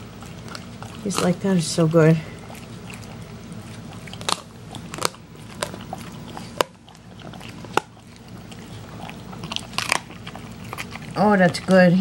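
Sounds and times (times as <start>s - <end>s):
dog crunching chicken bones: 0.0s - 12.0s.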